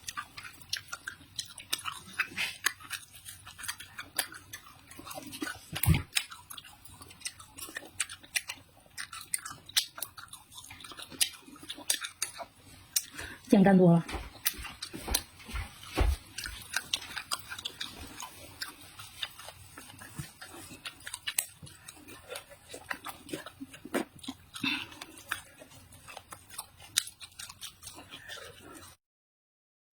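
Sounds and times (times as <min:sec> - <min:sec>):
person chewing vegetables: 0:00.0 - 0:29.0.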